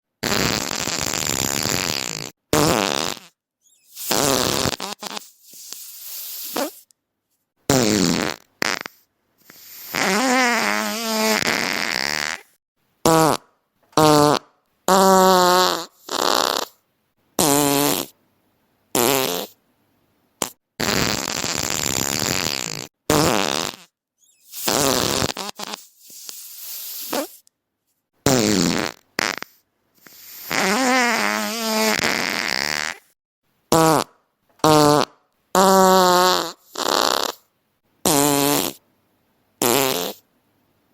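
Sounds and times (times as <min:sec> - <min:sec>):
fart sounds: 0:00.2 - 0:06.9, 0:07.7 - 0:16.8, 0:17.4 - 0:18.2, 0:19.0 - 0:19.6, 0:20.4 - 0:27.4, 0:28.2 - 0:38.8, 0:39.6 - 0:40.3.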